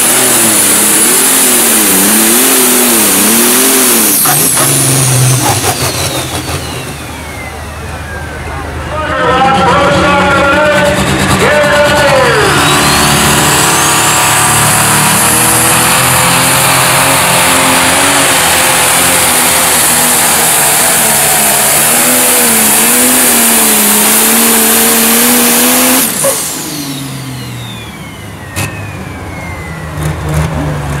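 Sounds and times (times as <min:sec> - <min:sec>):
diesel tractor engine under load: 0:00.0 - 0:31.0
high whine winding down: 0:00.0 - 0:31.0.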